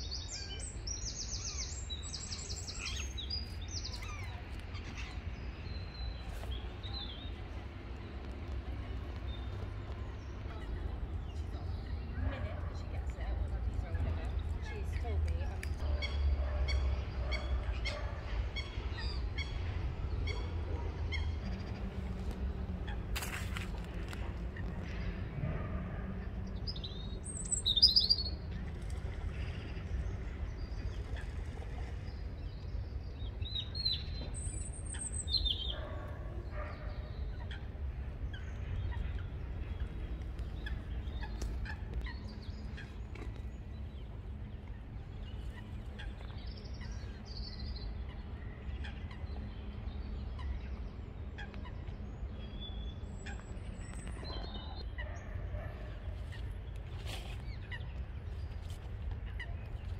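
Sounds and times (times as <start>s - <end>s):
birds calling and chirping: 0.0s - 59.9s
steady low rumble: 0.0s - 59.9s.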